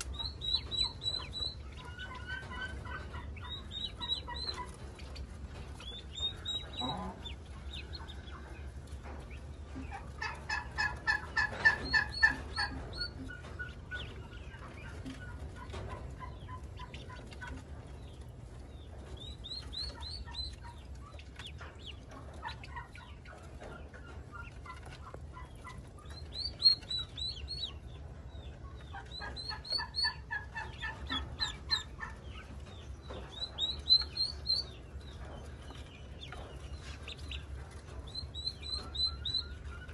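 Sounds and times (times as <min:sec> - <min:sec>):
ducklings peeping: 0:00.0 - 0:39.9
hen clucking: 0:00.0 - 0:39.9.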